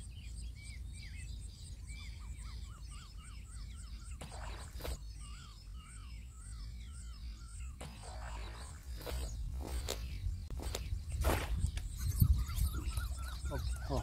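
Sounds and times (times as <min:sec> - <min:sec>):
bird chirping: 0:00.0 - 0:14.0
very high-pitched chirping: 0:00.0 - 0:14.0.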